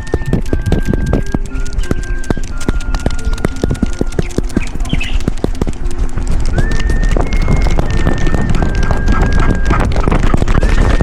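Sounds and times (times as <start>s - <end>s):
background music of held notes: 0.0s - 9.8s.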